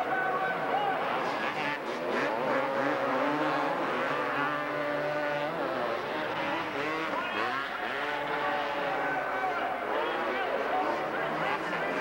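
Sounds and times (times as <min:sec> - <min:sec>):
racing quad engines revving: 0:00.0 - 0:12.0.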